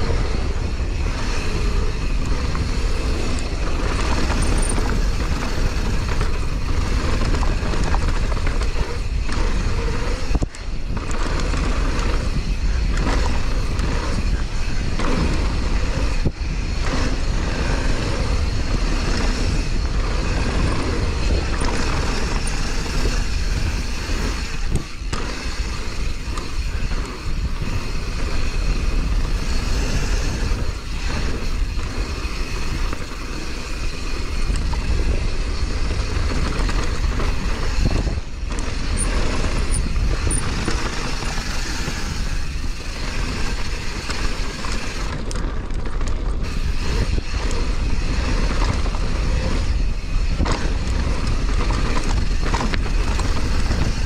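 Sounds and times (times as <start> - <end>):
bike tyres and rattle: 0.0 - 54.0
wind rushing on microphone: 0.0 - 54.0.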